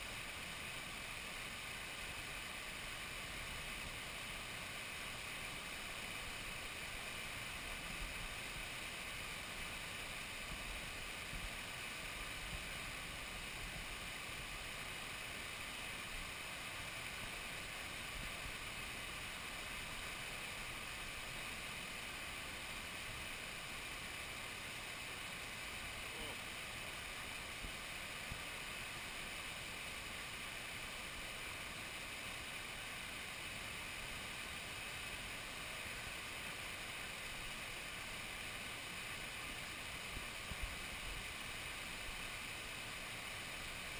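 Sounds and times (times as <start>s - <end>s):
river water rushing over weir: 0.0s - 43.9s.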